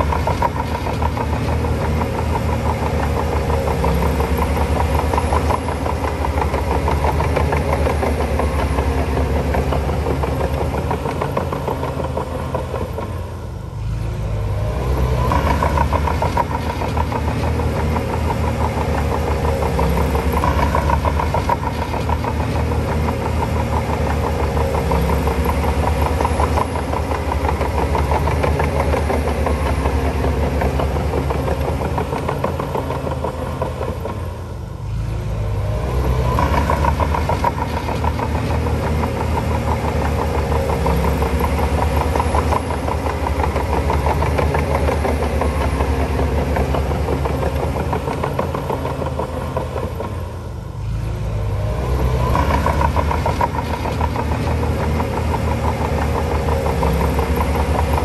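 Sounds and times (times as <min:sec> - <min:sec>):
heavy diesel engine throbbing: 0:00.0 - 0:58.0.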